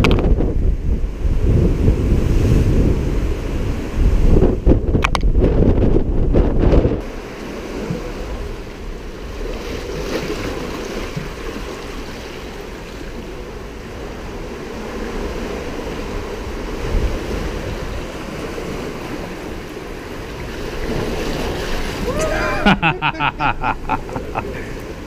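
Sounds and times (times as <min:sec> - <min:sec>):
ocean surf washing through rocks: 0:00.0 - 0:25.0
wind buffeting microphone: 0:00.0 - 0:25.0.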